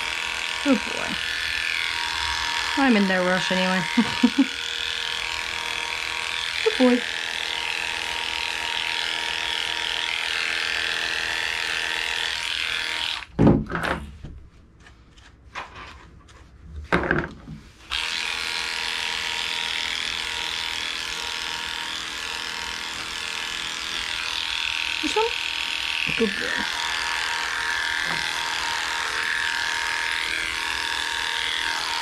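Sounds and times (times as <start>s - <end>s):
electric dog clipper humming: 0.0s - 13.3s, 17.8s - 32.0s.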